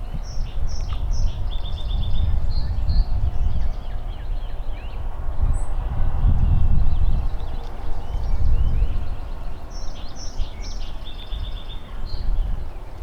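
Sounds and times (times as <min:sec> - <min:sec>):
songbird singing: 0:00.0 - 0:13.0
wind rumble: 0:00.0 - 0:13.0.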